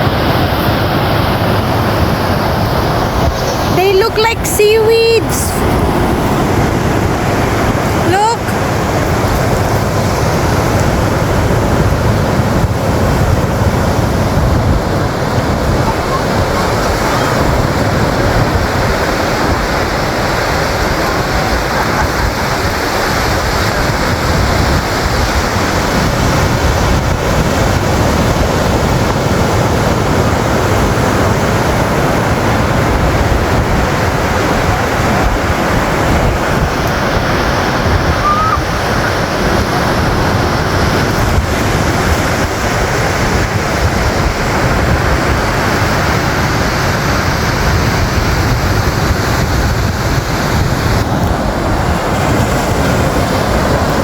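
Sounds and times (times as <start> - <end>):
surf washing onto beach: 0.0 - 54.0
wind rumbling on microphone: 0.0 - 54.0.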